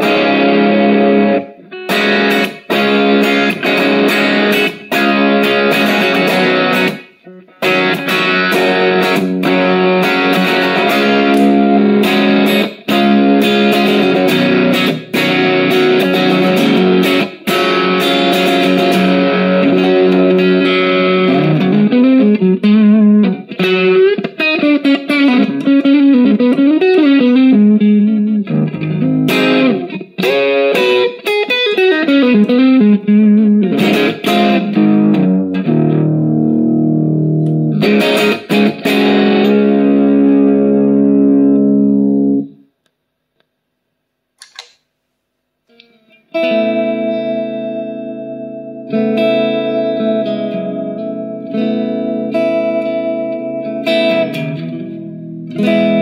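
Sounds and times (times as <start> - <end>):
distorted electric guitar: 0.0 - 42.7, 45.7 - 56.0.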